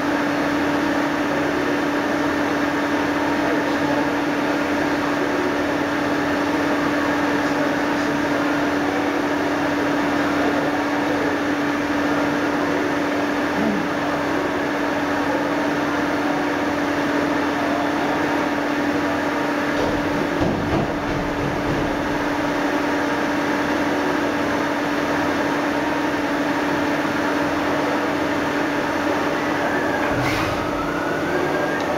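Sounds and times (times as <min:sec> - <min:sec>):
machine hum with pitched tone: 0:00.0 - 0:31.9.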